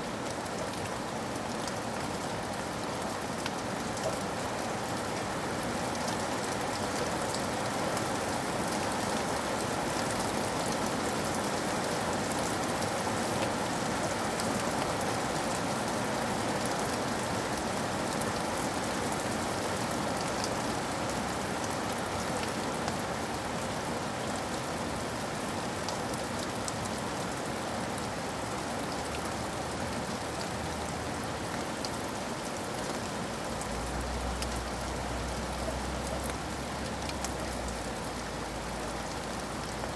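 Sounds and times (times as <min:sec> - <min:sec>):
rain pattering on hard surfaces: 0:00.0 - 0:39.9.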